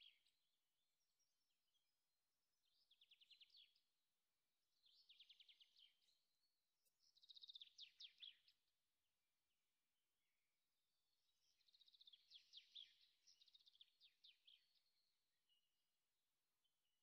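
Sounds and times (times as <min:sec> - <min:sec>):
faint bird song trills: 0:00.0 - 0:09.5, 0:10.6 - 0:17.0.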